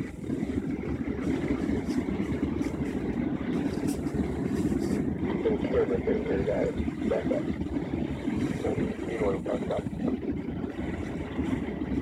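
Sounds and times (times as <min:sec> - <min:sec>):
engine and water rumble: 0:00.0 - 0:12.0.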